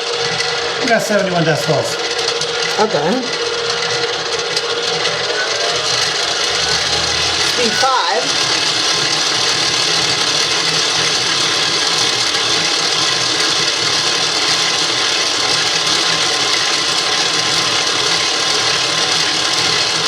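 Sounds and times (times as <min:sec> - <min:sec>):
stand mixer motor whirring: 0:00.0 - 0:20.0.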